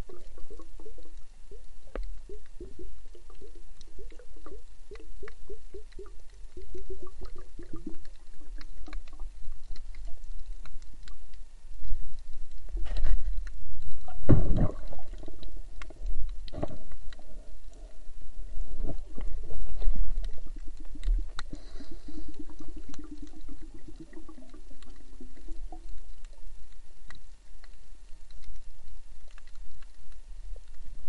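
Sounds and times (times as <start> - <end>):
faint clicks: 0.0 - 31.0
muffled underwater rumble: 0.0 - 31.0.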